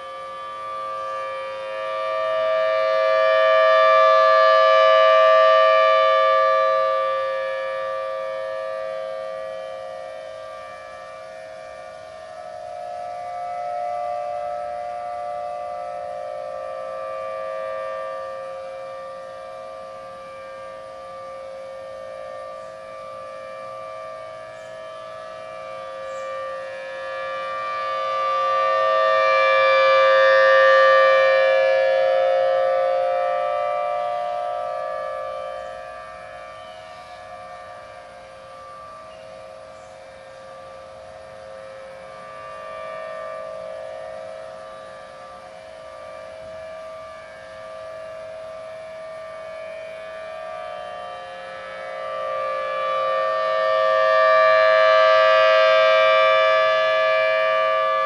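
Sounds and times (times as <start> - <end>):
other distant sirens: 0.0 - 58.0
outdoor warning siren steady tone: 0.0 - 58.0.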